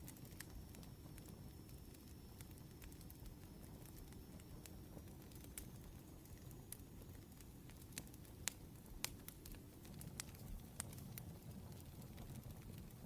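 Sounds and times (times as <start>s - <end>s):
low rumble of fire: 0.0s - 13.0s
wood fire crackling: 0.0s - 13.0s.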